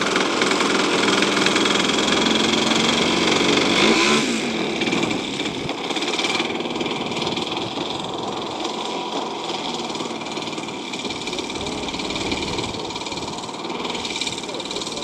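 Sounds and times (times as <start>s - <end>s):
model airplane engine running: 0.0s - 15.0s.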